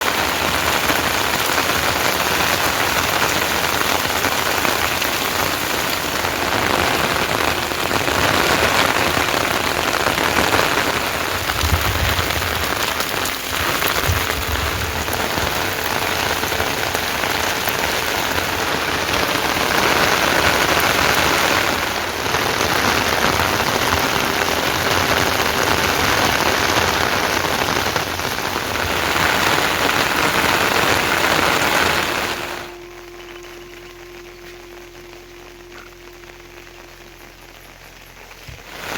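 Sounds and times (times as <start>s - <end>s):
heavy rain falling: 0.0s - 38.9s
low rumble: 4.1s - 38.8s.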